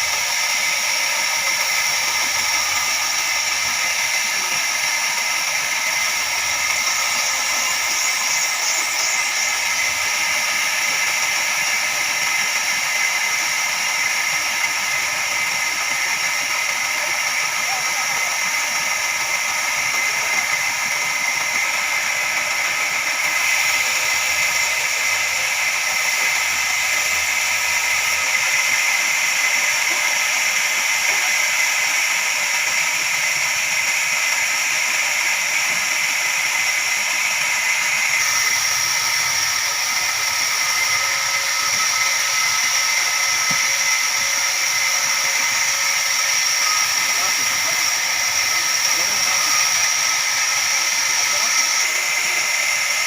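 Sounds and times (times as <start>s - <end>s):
band sawmill whining: 0.0s - 53.0s.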